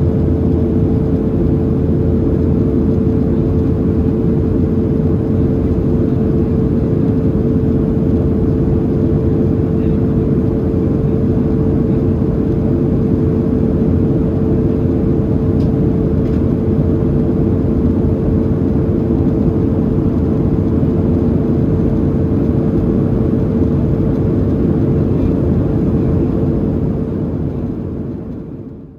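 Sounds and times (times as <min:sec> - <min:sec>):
airplane cabin rumble: 0:00.0 - 0:28.9.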